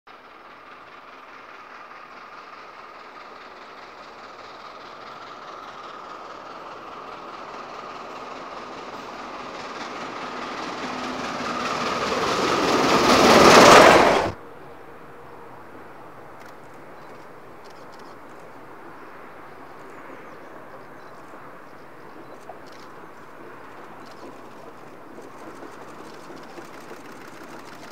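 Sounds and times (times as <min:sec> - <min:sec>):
steam locomotive passing: 0:00.1 - 0:27.9.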